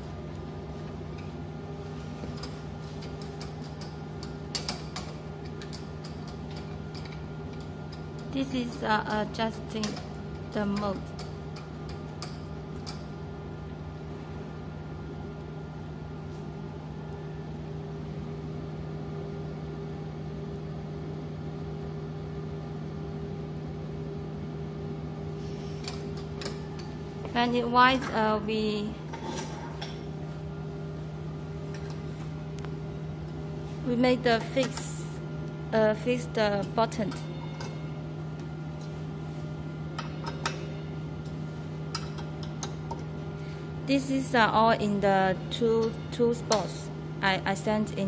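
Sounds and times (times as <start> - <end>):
steady electrical hum: 0.0 - 48.0.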